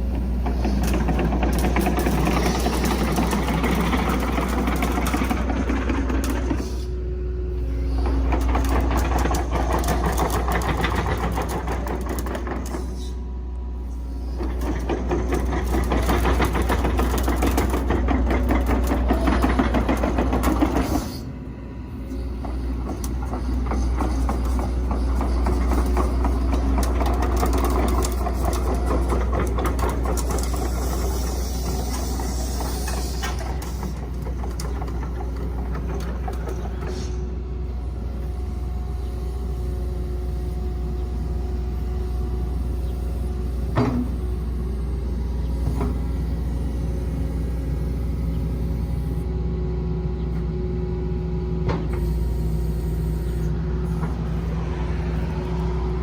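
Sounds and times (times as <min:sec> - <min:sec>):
excavator diesel engine humming: 0:00.0 - 0:56.0.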